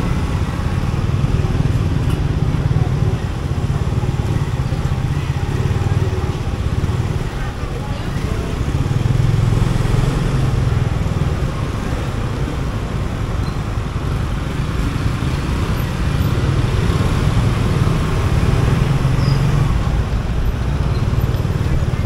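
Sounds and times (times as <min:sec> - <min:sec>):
road and traffic noise: 0:00.0 - 0:22.0.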